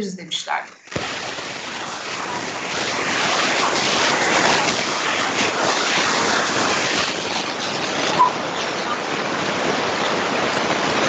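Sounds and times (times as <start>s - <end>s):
static-like noise rush: 0.0s - 11.0s.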